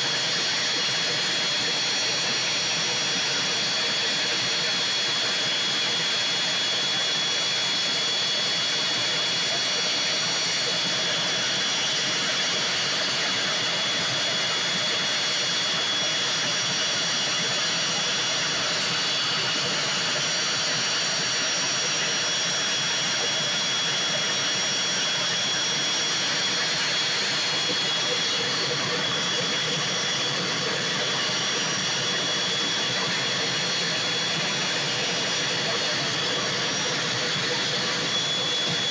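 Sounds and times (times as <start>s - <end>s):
aircraft turbine engine idling: 0.0s - 38.9s.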